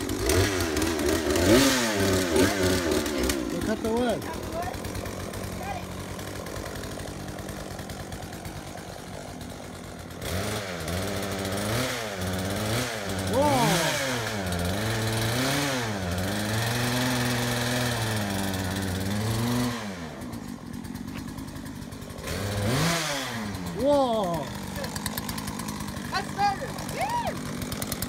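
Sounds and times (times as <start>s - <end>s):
chainsaw idling and revving: 0.0s - 28.0s.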